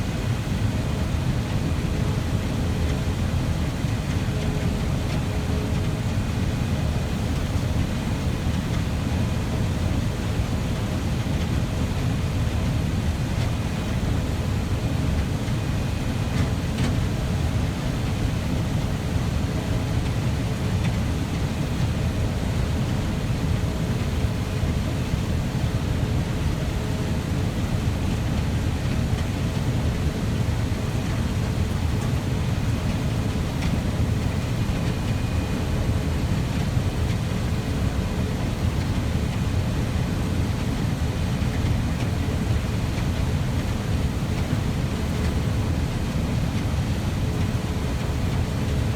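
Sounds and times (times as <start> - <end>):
faint steady whines: 0.0 - 48.9.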